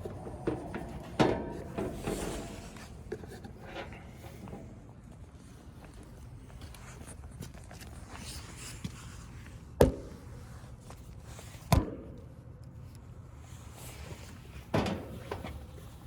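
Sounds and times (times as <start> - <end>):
handling and shuffling noise: 0.0 - 11.7, 12.8 - 16.0.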